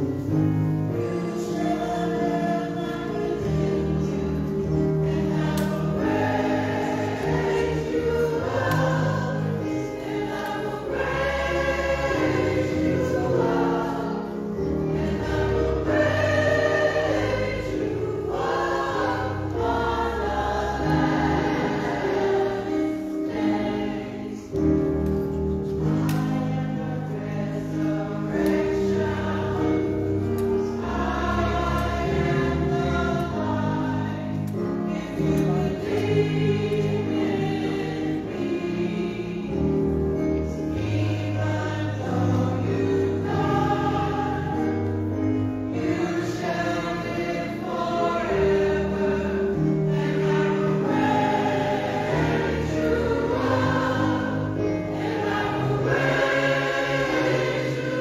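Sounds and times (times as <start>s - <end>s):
gospel choir singing: 0.0s - 58.0s.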